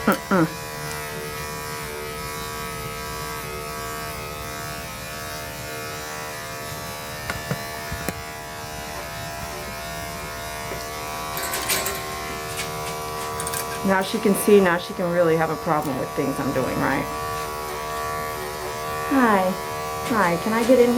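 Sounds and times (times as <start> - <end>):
electric clippers buzzing: 0.0 - 20.9.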